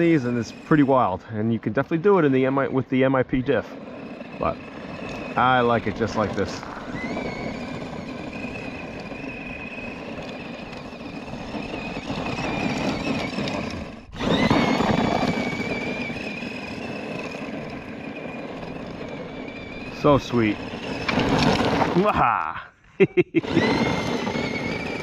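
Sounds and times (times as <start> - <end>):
electric motor and gear whine: 0.0 - 25.0
tyres on loose stones: 2.4 - 22.5.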